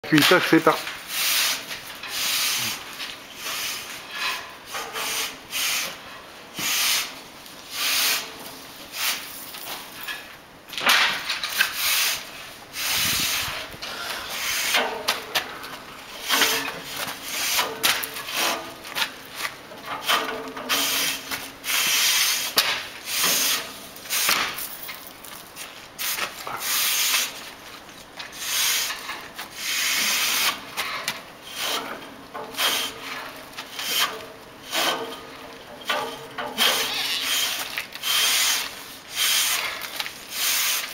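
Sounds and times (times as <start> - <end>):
brush scraping in boiler tubes: 0.1 - 9.4, 11.4 - 15.2, 16.0 - 24.3, 26.0 - 27.6, 28.3 - 40.9.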